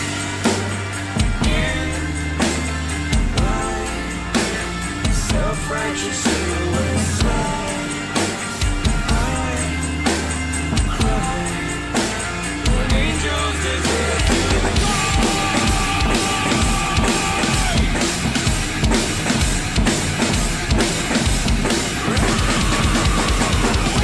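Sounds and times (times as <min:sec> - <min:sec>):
drum kit rock beat: 0:00.0 - 0:24.0.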